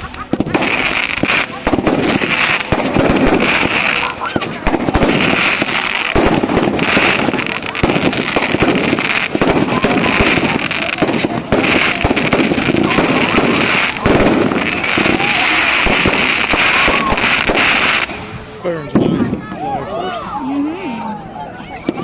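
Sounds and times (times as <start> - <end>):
fireworks crackling: 0.0 - 19.7, 21.8 - 22.0.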